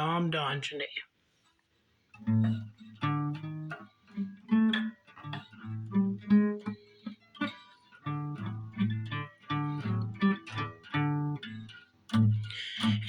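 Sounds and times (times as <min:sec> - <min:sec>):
guitar chords: 0:02.2 - 0:13.0.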